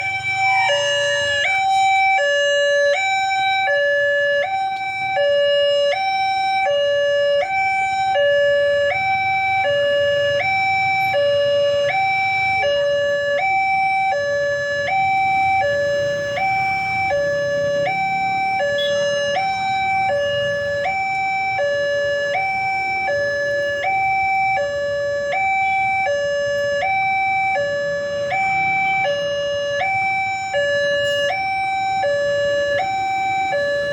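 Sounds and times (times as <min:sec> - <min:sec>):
two-tone level crossing alarm: 0:00.0 - 0:33.9.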